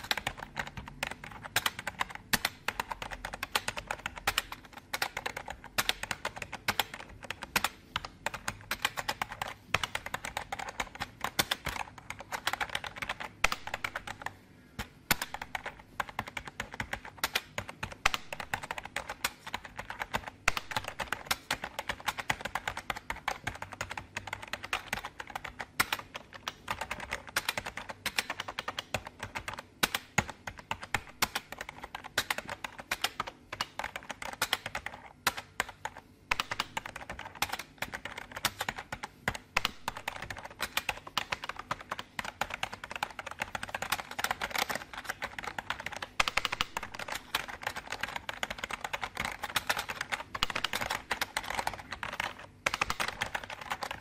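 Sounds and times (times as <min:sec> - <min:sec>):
typing on computer keyboard: 0:00.0 - 0:54.0.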